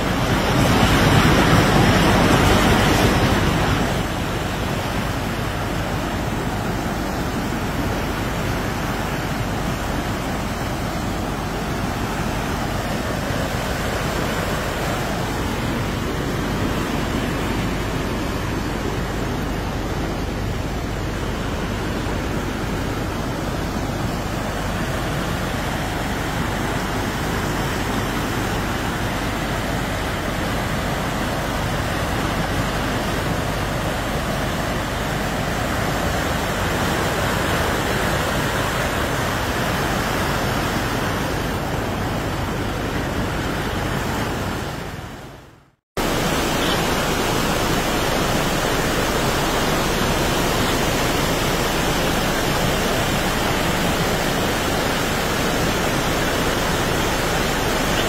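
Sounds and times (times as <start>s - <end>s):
floodwater rushing: 0.0s - 45.4s, 46.0s - 58.0s.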